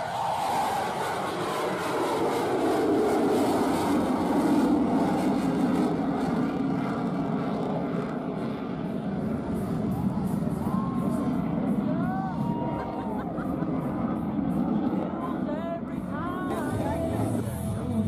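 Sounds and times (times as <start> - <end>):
fighter jet engines roaring: 0.0 - 18.0.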